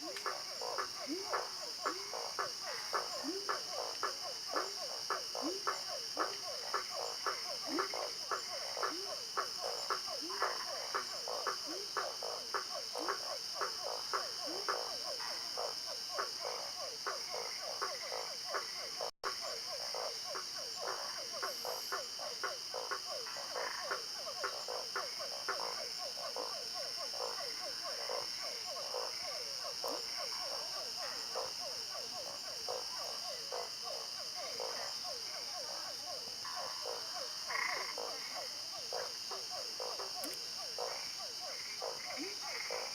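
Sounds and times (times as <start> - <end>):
frogs croaking: 0.0 - 42.9.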